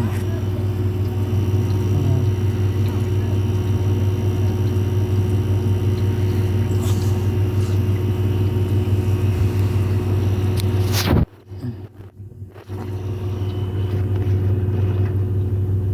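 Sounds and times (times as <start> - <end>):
vehicle engine drone: 0.0 - 15.9.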